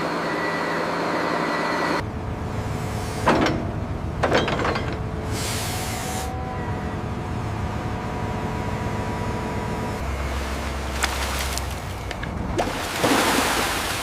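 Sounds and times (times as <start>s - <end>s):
heavy machinery rumbling: 2.0s - 14.0s.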